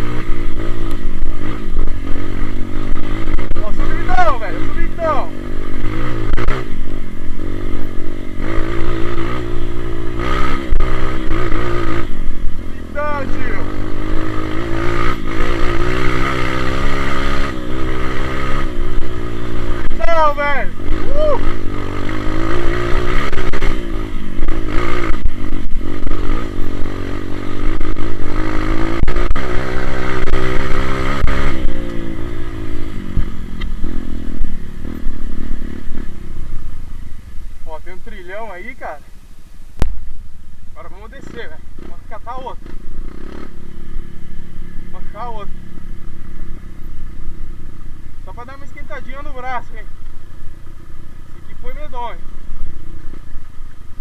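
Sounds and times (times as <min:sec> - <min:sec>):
dirt bike engine revving: 0:00.0 - 0:39.1, 0:40.7 - 0:54.0.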